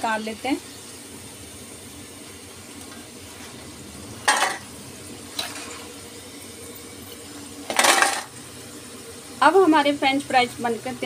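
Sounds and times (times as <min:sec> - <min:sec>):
fries sizzling in hot oil: 0:00.0 - 0:11.0.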